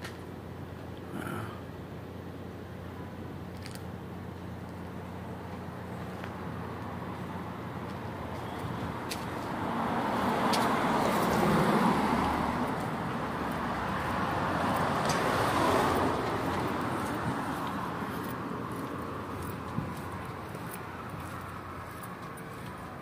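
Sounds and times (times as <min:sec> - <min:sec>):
cars driving past: 0:03.6 - 0:23.0.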